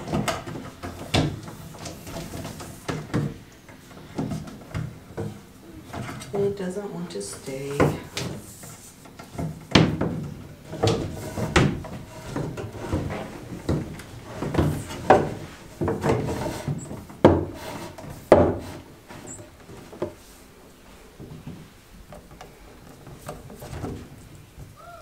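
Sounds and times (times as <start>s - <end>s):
cable rubbing through wood framing: 0.0s - 6.5s, 7.2s - 24.5s.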